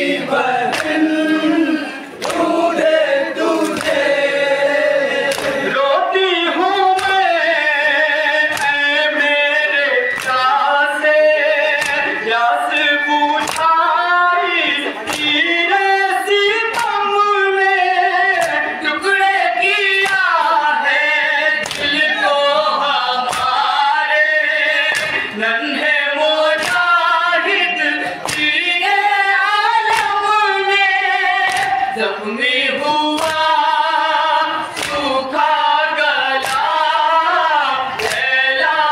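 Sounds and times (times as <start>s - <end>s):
group singing along: 0.0s - 38.9s
men singing a lament: 0.0s - 38.9s.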